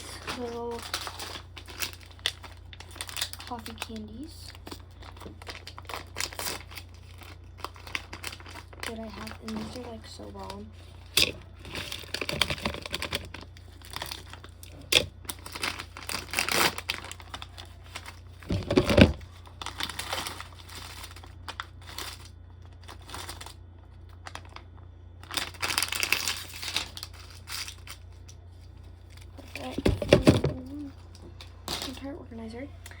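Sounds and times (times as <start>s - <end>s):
plastic wrappers crinkling: 0.0s - 33.0s.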